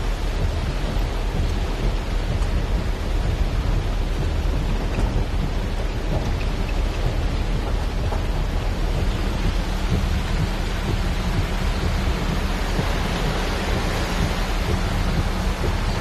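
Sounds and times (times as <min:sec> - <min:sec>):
heavy rain on car roof: 0:00.0 - 0:16.0
low rumble: 0:00.0 - 0:16.0.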